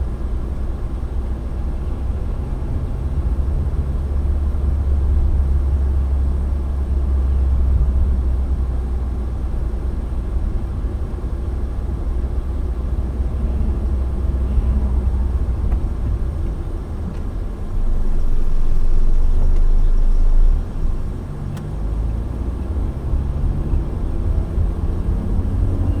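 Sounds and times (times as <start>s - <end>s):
car road and engine rumble: 0.0s - 26.0s
faint engine hum rising: 0.0s - 26.0s.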